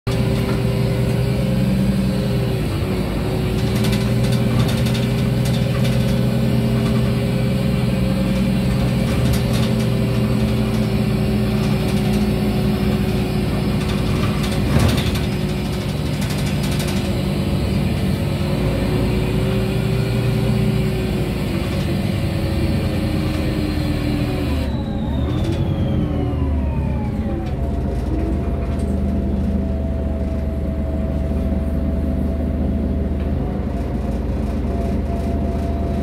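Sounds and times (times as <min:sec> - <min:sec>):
bus engine drone with whine: 0:00.0 - 0:36.0.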